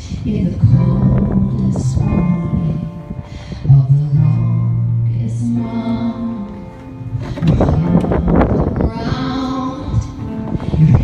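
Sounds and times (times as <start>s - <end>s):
guitar accompaniment: 0.0s - 11.0s
woman singing through a pa: 0.0s - 11.0s.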